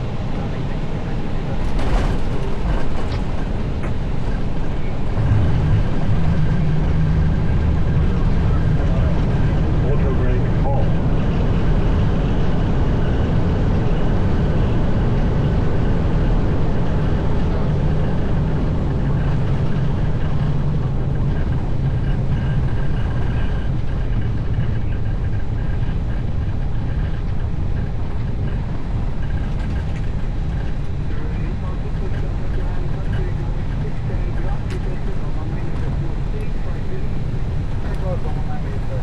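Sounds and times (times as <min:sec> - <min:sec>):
airliner engine rumble: 0:00.0 - 0:39.0.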